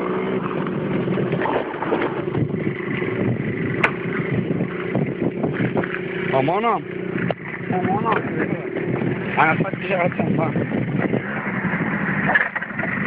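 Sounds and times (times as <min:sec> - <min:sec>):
scooter engine droning: 0:00.0 - 0:13.0
wind on microphone: 0:00.4 - 0:13.0.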